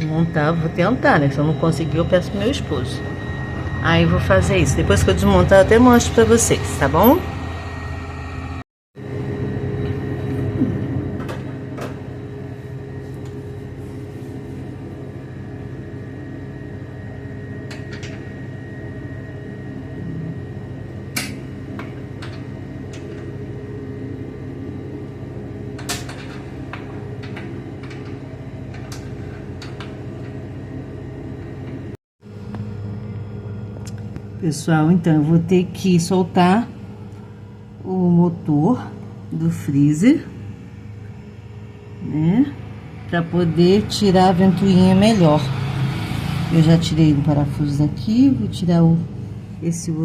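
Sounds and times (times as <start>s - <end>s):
steady machine hum: 0.0s - 50.0s.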